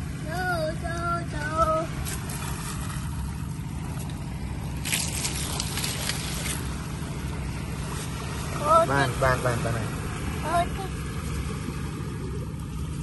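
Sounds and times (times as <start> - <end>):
engine throbbing: 0.0 - 13.0
water splashing: 0.0 - 13.0.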